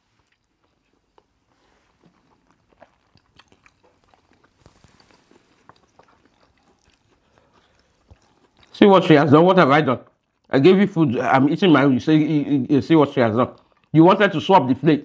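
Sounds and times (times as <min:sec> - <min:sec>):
faint chewing: 0:00.0 - 0:11.2, 0:12.2 - 0:14.4.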